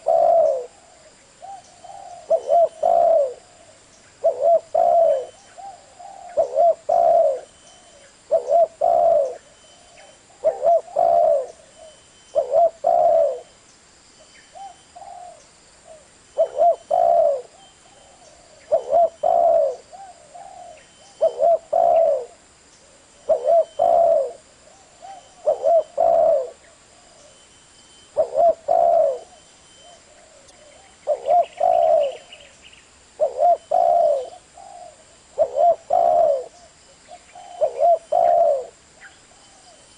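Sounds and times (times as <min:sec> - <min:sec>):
dove cooing: 0:00.0 - 0:13.6, 0:14.5 - 0:27.5, 0:28.1 - 0:39.9.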